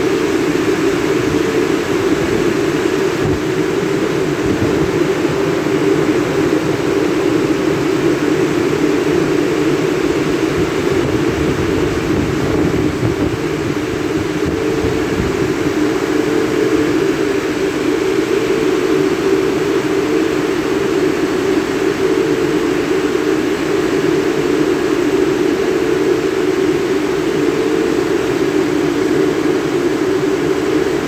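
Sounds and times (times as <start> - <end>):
car wash blowers rushing air: 0.0 - 31.0.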